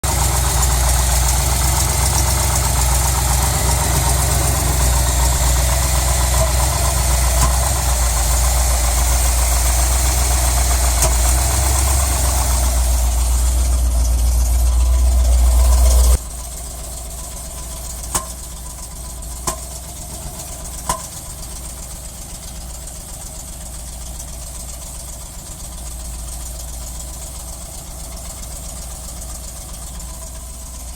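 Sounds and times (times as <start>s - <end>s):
engine idling with misfire: 0.0s - 30.9s.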